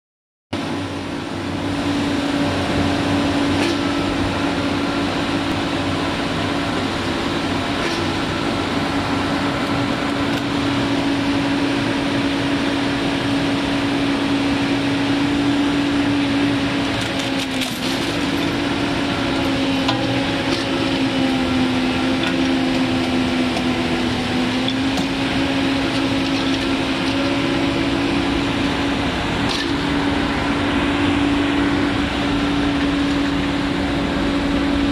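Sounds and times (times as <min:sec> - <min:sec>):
excavator diesel engine running: 0:00.6 - 0:34.9.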